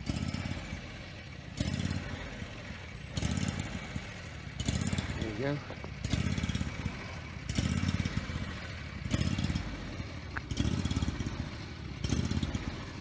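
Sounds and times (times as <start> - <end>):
mower engine idling unevenly: 0.0 - 13.0.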